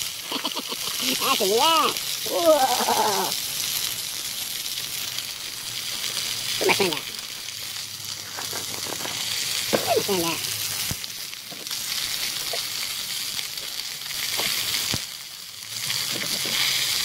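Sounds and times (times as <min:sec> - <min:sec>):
sausages sizzling in a pan: 0:00.0 - 0:17.0.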